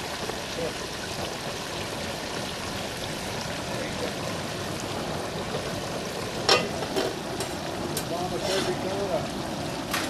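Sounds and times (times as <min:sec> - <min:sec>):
oil sizzling and bubbling: 0:00.0 - 0:10.0.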